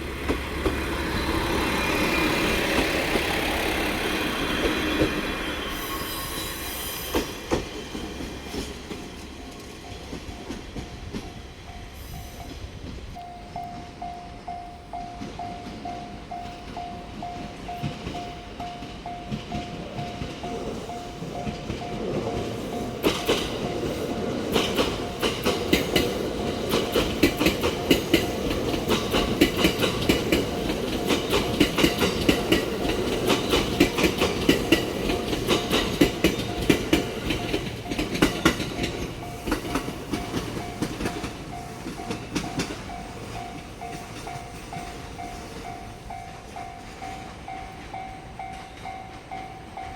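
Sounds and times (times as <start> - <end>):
train wheels clacking on rails: 0.0 - 49.9
level crossing warning bell: 7.9 - 49.9.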